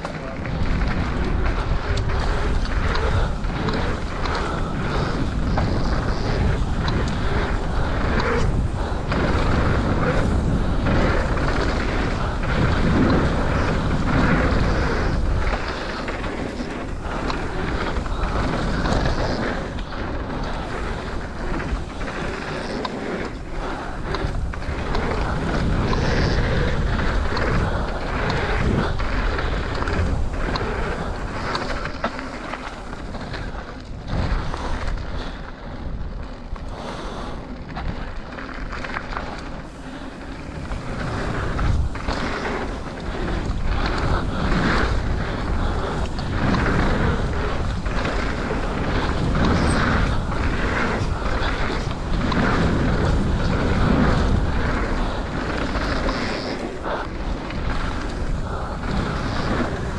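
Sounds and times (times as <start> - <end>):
bike clattering over bumps: 0.0 - 59.9
tyres rolling over dirt: 0.0 - 59.9
wind buffeting microphone: 0.0 - 59.9.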